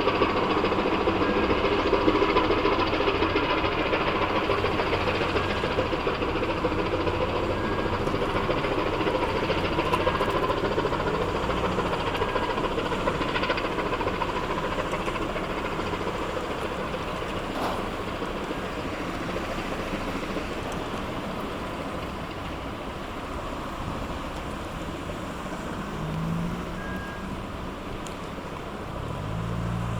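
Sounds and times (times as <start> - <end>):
tug diesel engine droning: 0.0 - 29.9.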